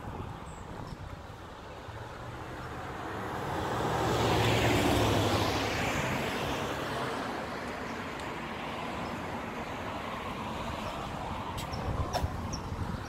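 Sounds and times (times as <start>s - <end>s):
vehicle passing: 1.8s - 13.0s.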